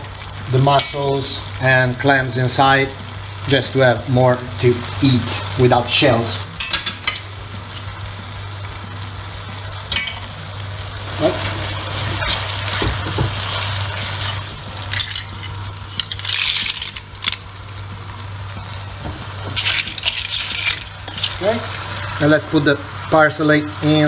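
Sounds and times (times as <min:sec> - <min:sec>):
pasta and shellfish sizzling in pan: 0:00.0 - 0:24.0.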